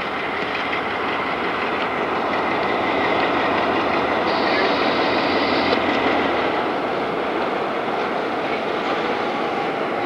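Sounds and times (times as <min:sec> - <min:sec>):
diesel locomotive engine: 0:00.0 - 0:10.0.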